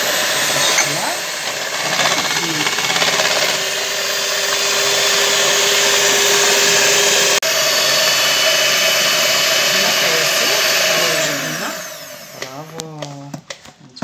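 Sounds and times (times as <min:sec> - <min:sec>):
electric hand mixer whipping cream: 0:00.0 - 0:13.0.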